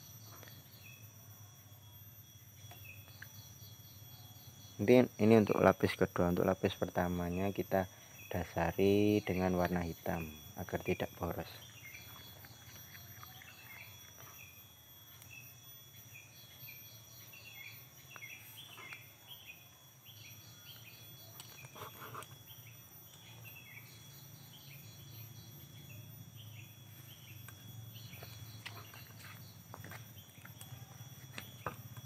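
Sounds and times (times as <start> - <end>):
high insect drone: 0.0 - 32.0
birds chirping: 2.4 - 32.0.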